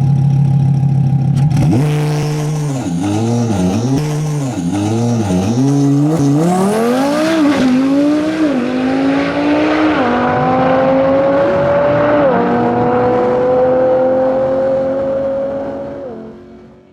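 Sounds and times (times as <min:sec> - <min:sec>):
car engine revving at full throttle: 0:01.2 - 0:16.9.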